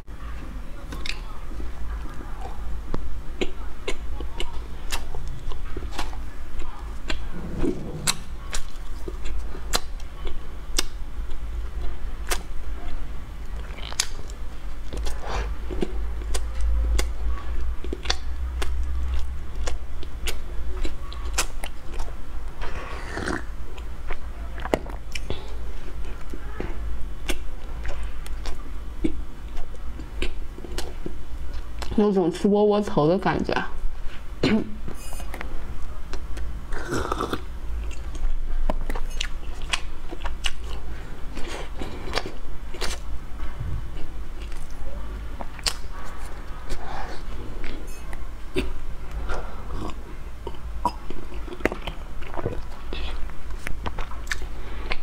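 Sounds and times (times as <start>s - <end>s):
steady low hum: 0.0s - 55.0s
person chewing bread: 0.8s - 31.9s, 34.0s - 55.0s.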